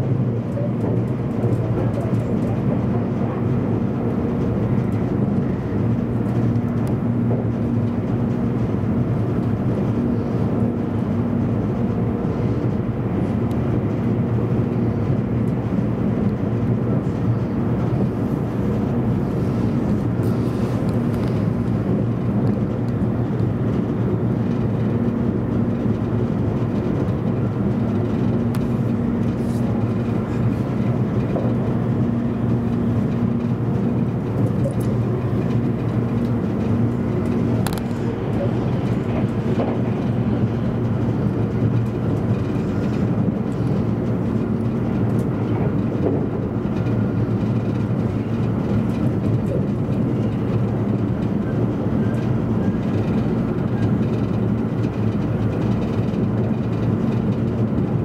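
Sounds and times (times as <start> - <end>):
train interior hum: 0.0 - 58.0.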